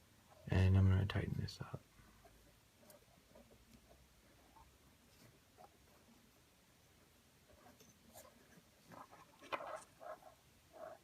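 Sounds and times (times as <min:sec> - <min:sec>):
paracord rustling: 0:01.9 - 0:11.0.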